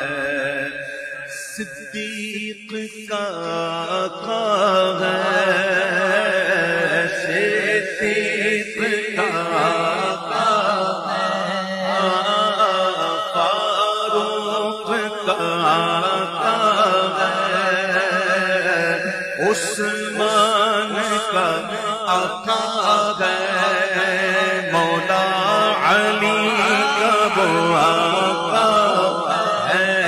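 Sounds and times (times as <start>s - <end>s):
man singing with vibrato: 0.0s - 30.0s.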